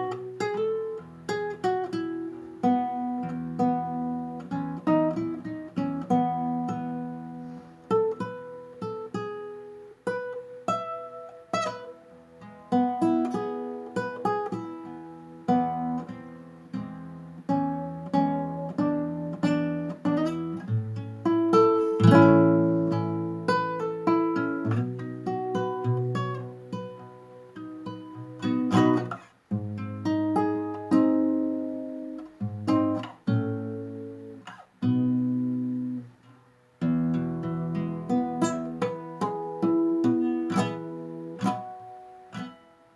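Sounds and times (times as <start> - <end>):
acoustic guitar melody: 0.0 - 42.9.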